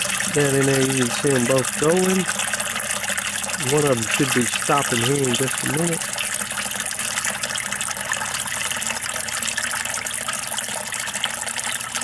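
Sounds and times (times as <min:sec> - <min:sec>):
water splashing into a tank: 0:00.0 - 0:12.0.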